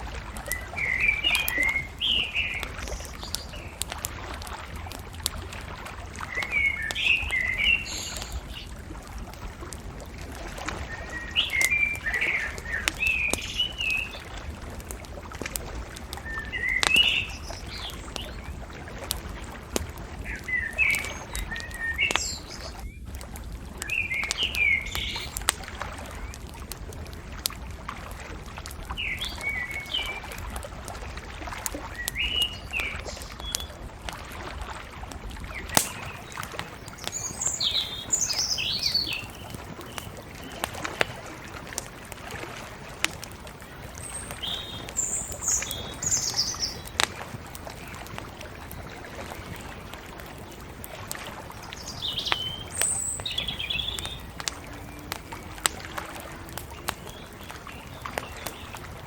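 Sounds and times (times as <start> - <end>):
bonfire popping and crackling: 0.0 - 59.0
songbirds chirping: 0.3 - 4.6, 5.3 - 26.7, 28.6 - 34.6, 35.2 - 59.0.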